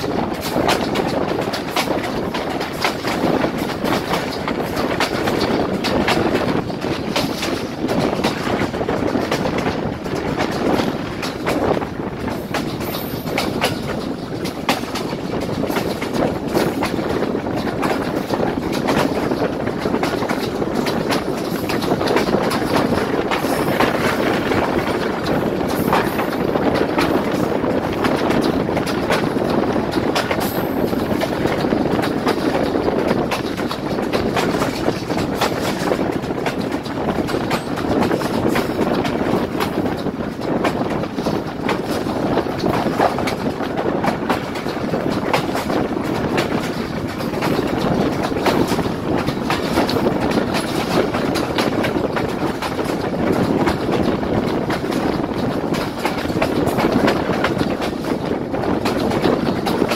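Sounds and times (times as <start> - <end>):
rumble of train wheels: 0.0 - 59.9
wheels clicking over rail joints: 0.0 - 59.9.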